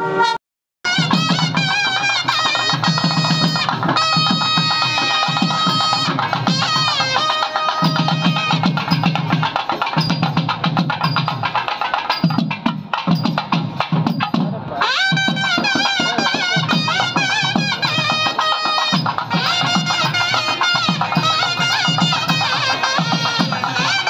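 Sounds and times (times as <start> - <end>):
rapid drum strokes: 0.9 - 24.0.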